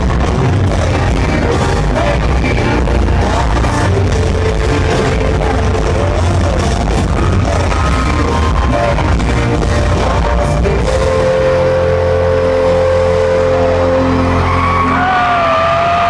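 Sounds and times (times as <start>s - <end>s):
live country-rock band playing: 0.0s - 16.0s.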